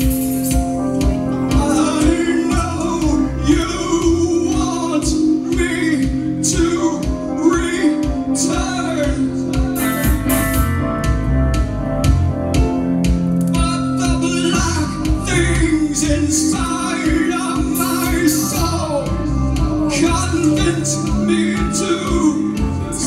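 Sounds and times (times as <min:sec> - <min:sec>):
electric guitar: 0:00.0 - 0:23.0
live rock band playing: 0:00.0 - 0:23.0.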